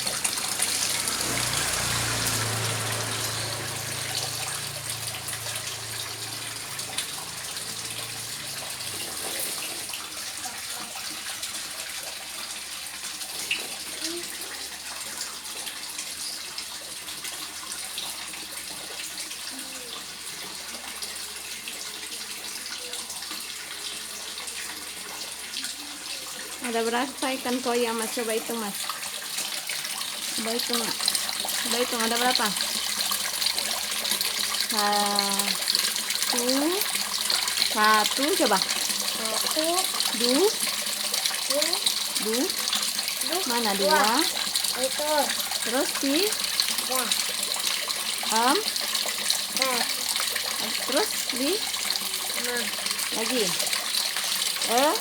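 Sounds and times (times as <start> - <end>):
water trickling into a pond: 0.0 - 55.0.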